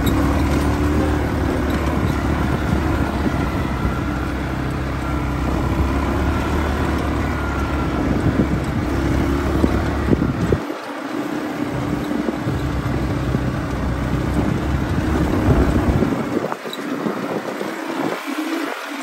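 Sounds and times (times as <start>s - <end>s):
wind buffeting microphone: 0.0s - 10.8s, 11.6s - 19.0s
quad bike engines running: 0.0s - 19.0s.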